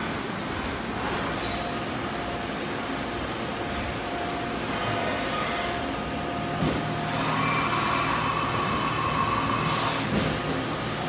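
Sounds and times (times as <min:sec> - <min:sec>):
machining centre whine: 0:00.0 - 0:11.0.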